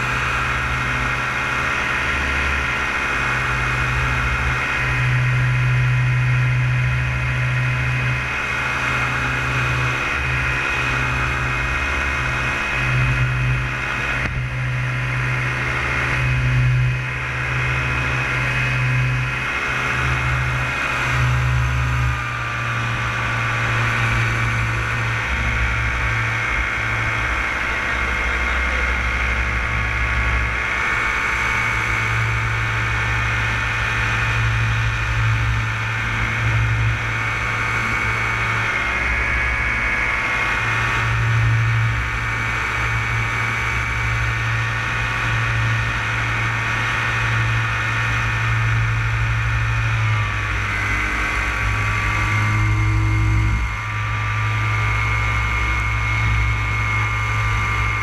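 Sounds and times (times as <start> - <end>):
high propeller whine: 0.0 - 58.0
paramotor engine running: 0.0 - 58.0.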